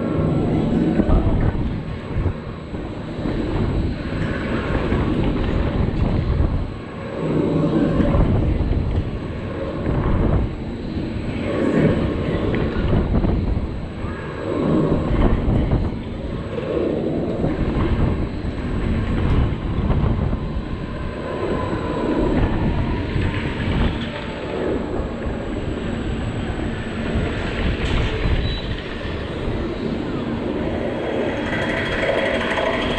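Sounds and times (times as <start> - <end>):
spinning ride low rumble: 0.0 - 32.9
wind rushing over microphone: 0.0 - 32.9.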